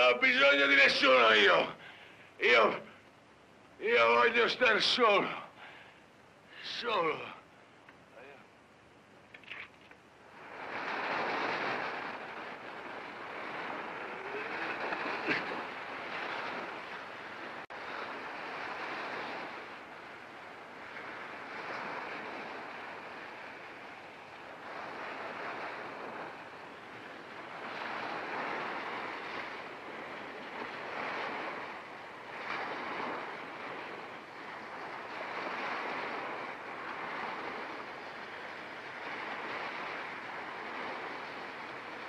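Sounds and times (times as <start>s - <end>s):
waves breaking on beach: 0.0s - 3.1s, 3.8s - 42.0s.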